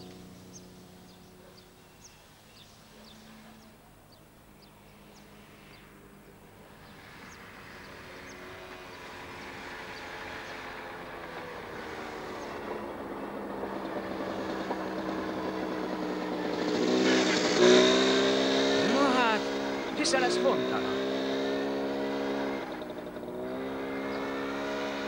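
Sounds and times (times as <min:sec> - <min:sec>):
birds chirping: 0:00.0 - 0:25.0
motorcycle engine approaching: 0:00.0 - 0:25.0.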